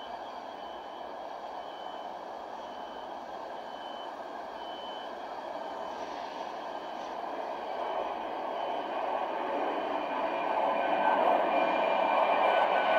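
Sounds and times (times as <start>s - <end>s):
distant turboprop engine rushing: 0.0s - 12.9s.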